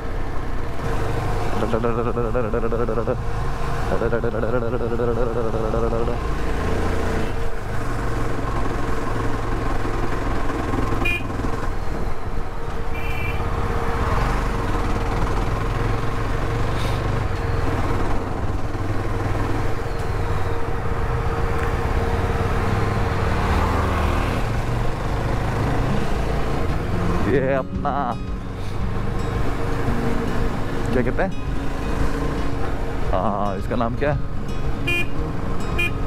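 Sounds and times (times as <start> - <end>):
motorcycle engine running: 0.5 - 36.0.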